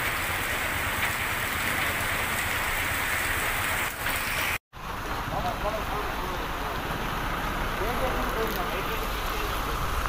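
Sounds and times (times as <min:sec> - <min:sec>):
rain on umbrellas and street: 0:00.0 - 0:10.0.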